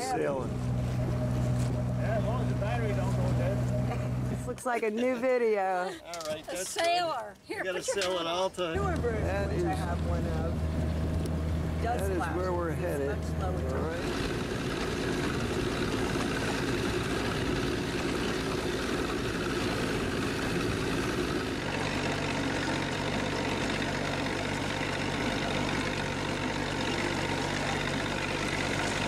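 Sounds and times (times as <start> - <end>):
boat engine running: 0.0 - 4.8, 8.6 - 29.0.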